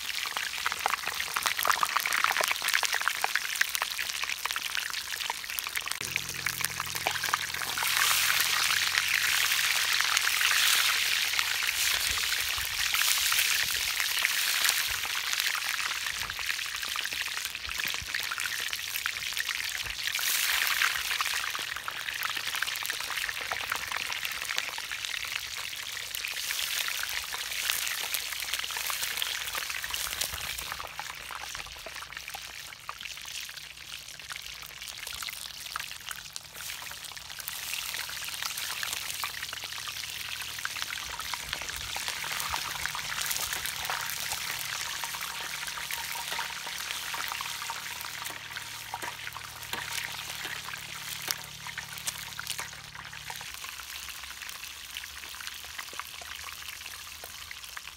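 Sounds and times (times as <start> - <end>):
hot oil being poured: 0.0 - 57.2
hot oil sizzling and crackling: 0.0 - 57.9.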